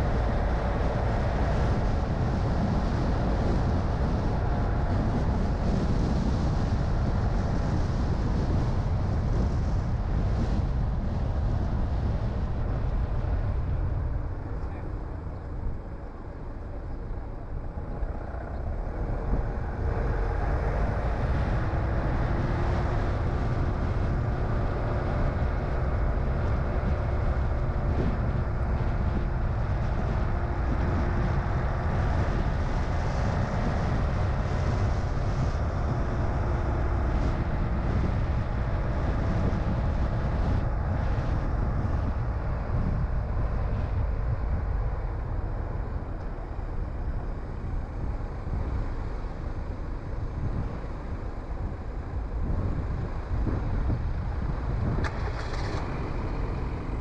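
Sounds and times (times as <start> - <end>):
car engine and tyre rumble: 0.0 - 57.0
faint engine hum: 0.0 - 57.0.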